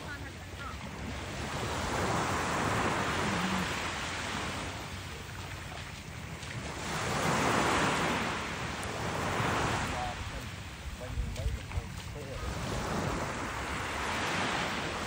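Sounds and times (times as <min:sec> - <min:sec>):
surf washing up beach: 0:00.0 - 0:15.0
wind rumble on microphone: 0:00.0 - 0:15.0.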